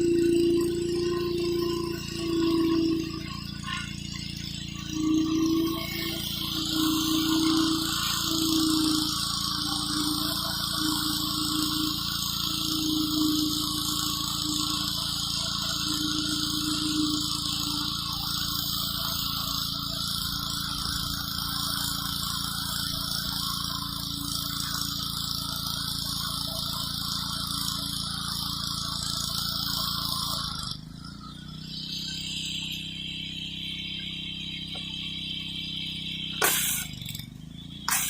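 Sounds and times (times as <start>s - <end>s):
high-pressure water jet hissing: 0.0s - 38.0s
pressure washer engine running: 0.0s - 38.0s.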